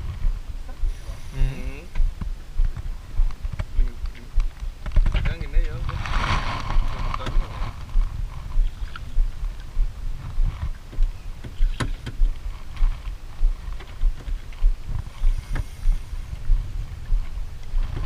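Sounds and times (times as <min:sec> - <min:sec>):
low regular thudding: 0:00.0 - 0:18.0.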